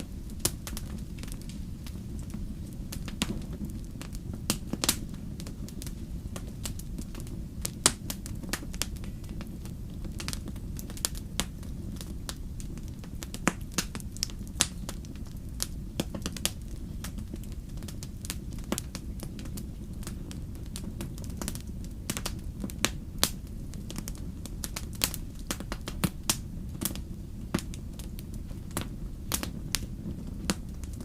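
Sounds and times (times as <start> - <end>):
campfire crackling and popping: 0.0 - 31.0
fire low rumble: 0.0 - 31.0.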